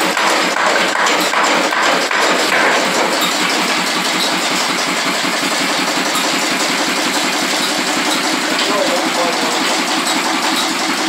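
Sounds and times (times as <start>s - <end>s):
diesel engine running: 0.0s - 11.0s
machinery rapid mechanical beat: 0.0s - 11.0s.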